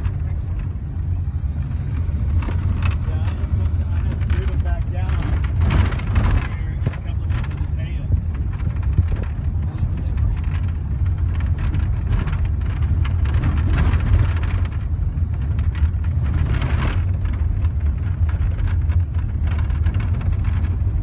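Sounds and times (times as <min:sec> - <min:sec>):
van engine and tyre rumble: 0:00.0 - 0:21.0
small clicks and rattles: 0:01.9 - 0:21.0.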